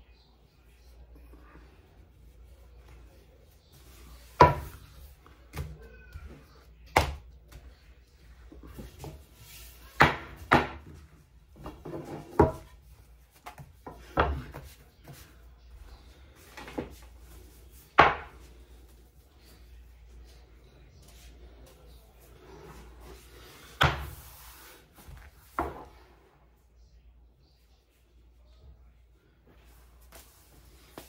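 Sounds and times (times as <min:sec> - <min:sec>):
faint dough handling noise: 0:00.0 - 0:31.0.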